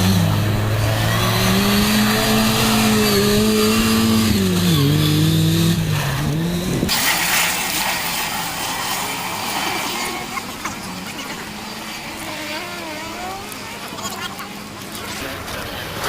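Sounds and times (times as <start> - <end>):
rally car engine revving hard: 0.0 - 13.8.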